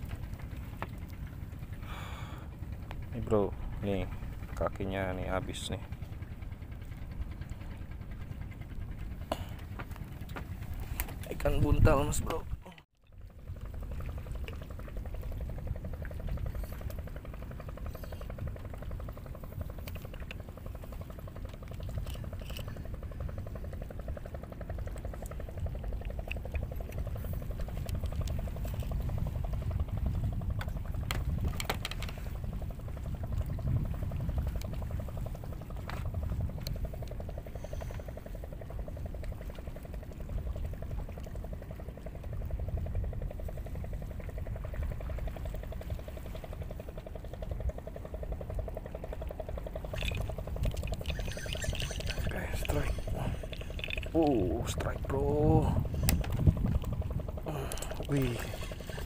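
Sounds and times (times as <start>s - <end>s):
seawater lapping and sloshing: 0.0s - 59.0s
steady low rumble: 0.0s - 59.0s.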